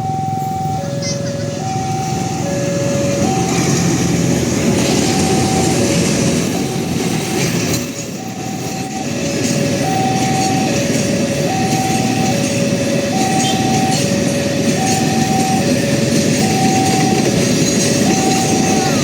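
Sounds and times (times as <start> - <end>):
train rumble and wheel noise: 0.0 - 19.0
two-tone level-crossing alarm: 0.0 - 19.0.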